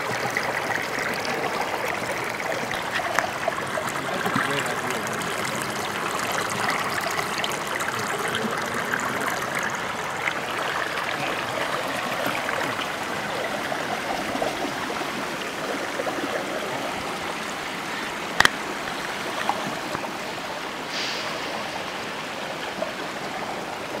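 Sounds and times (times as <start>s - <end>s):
stream water over boulders: 0.0s - 24.0s.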